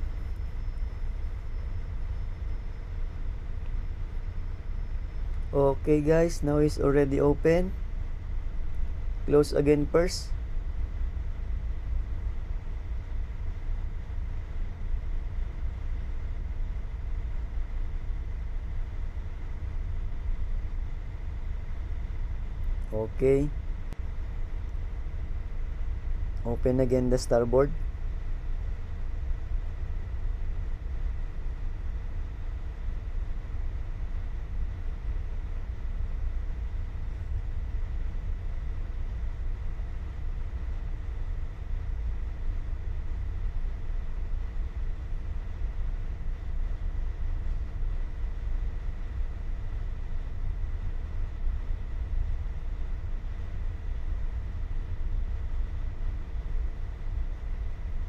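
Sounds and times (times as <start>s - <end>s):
faint high whine: 0.0s - 58.0s
low machinery rumble: 0.0s - 58.0s.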